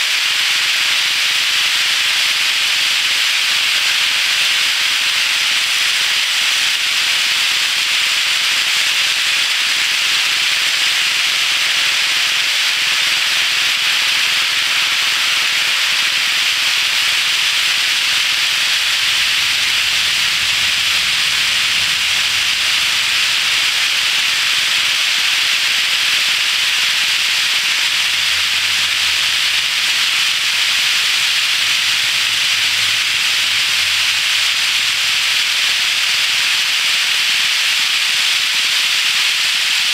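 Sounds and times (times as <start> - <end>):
model train wheels rushing on rails: 0.0 - 39.9.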